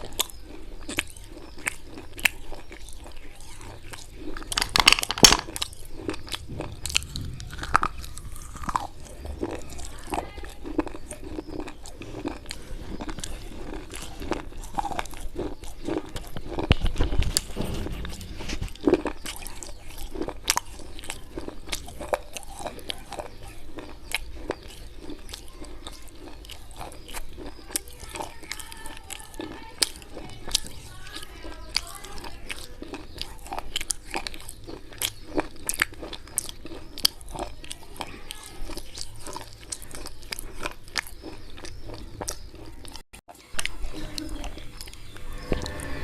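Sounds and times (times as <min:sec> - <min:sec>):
chewing crunches and crackles: 0:00.0 - 0:46.0.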